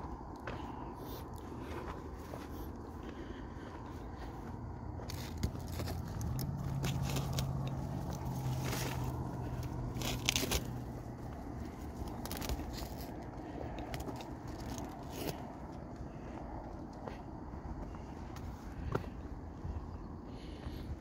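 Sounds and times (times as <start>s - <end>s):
distant road traffic hum: 0.0s - 21.0s
footsteps on dry dirt trail: 0.0s - 21.0s.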